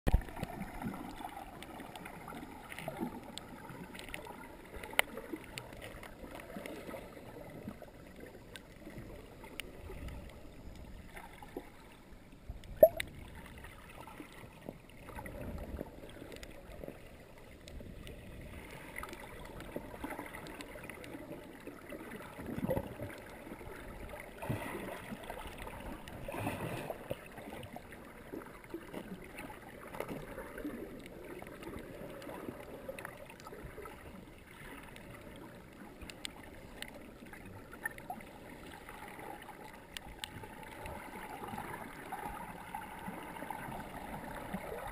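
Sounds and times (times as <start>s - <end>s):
underwater water gurgling: 0.1s - 44.9s.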